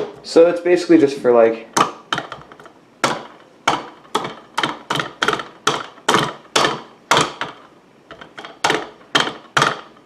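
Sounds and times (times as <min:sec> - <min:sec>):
plastic mug knocking on desk: 0:01.8 - 0:09.9.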